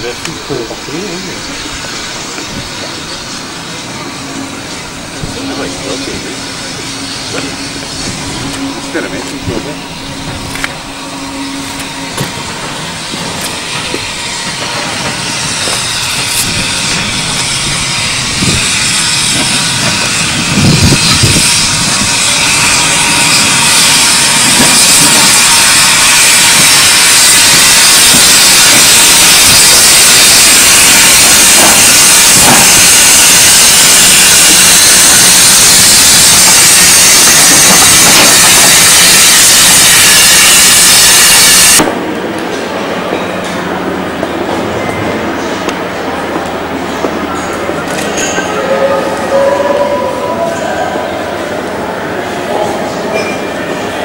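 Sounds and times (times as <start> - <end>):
locomotive steam hissing: 0.0 - 54.0.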